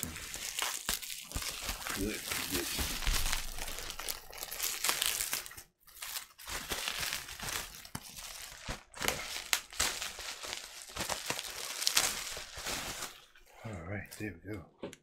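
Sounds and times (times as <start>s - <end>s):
plastic packaging crinkling: 0.0s - 13.5s.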